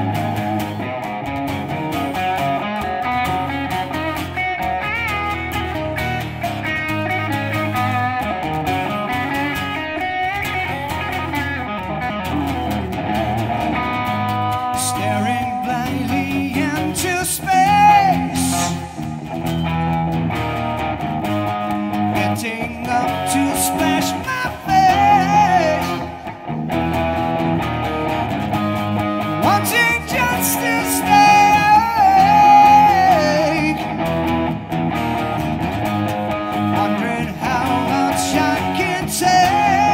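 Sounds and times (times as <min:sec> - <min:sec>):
electric guitar lead lines: 0:00.0 - 0:39.9
strummed acoustic guitar: 0:00.0 - 0:39.9.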